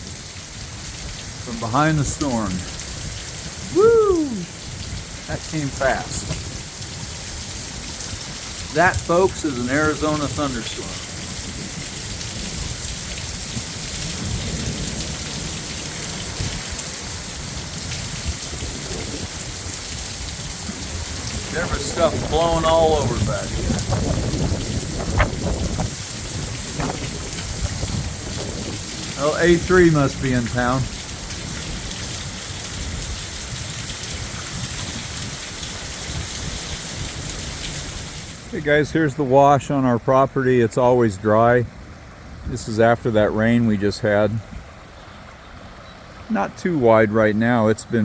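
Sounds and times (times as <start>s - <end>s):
heavy rain pouring: 0.0s - 48.0s.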